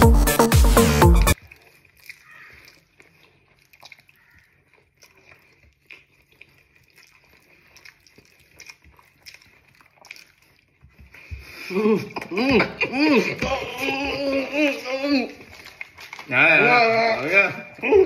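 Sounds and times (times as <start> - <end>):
chewing: 1.2 - 18.0.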